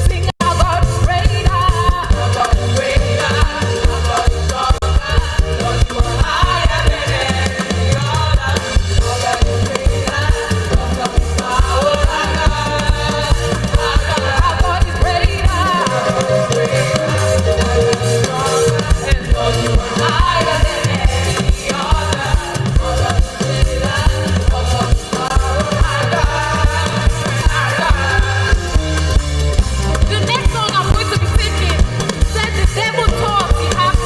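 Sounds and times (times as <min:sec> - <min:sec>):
person singing: 0:00.0 - 0:29.1
drum kit: 0:00.0 - 0:34.0
guitar: 0:00.0 - 0:34.0
praise band playing upbeat song: 0:00.0 - 0:34.0.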